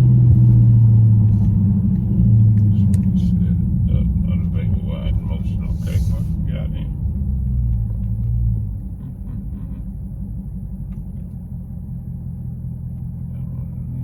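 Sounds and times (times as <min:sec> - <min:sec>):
car engine and exhaust drone: 0:00.0 - 0:14.0.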